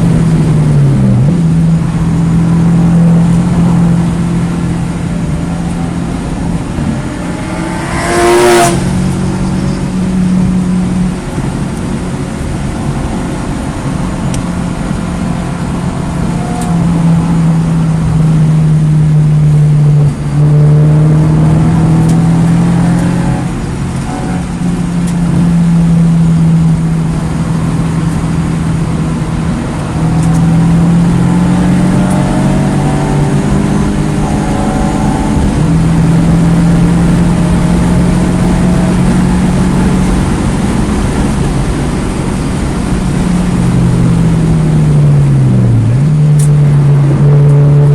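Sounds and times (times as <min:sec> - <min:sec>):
car engine running hard: 0:00.0 - 0:47.9.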